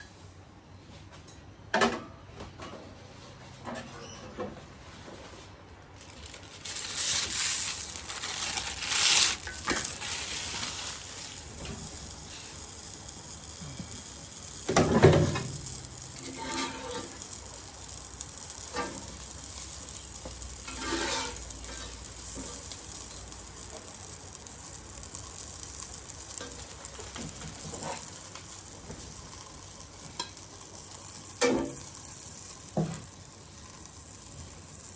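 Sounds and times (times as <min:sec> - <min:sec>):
food sizzling in hot oil: 0:06.0 - 0:34.9.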